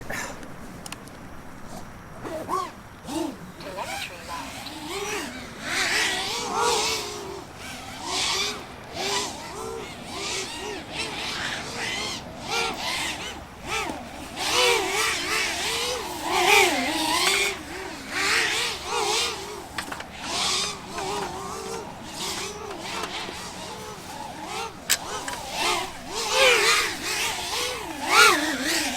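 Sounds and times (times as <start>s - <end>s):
drone motors and propellers buzzing: 0.0s - 28.9s.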